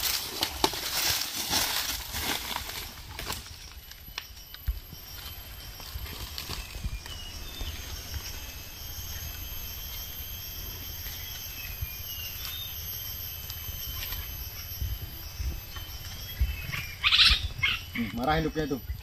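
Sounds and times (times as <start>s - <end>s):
low microphone rumble: 2.0s - 19.0s
bird calls: 3.3s - 19.0s.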